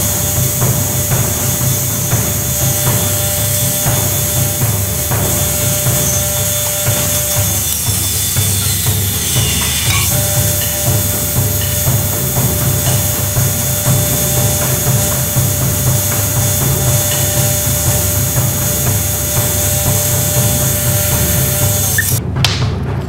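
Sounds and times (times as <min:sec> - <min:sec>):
bench grinder grinding steel: 0:00.0 - 0:22.2.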